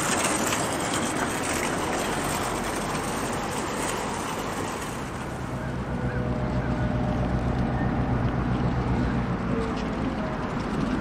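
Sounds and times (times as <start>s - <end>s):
diesel locomotive engine drone: 0.0s - 11.0s
train rolling past on rails: 0.0s - 11.0s.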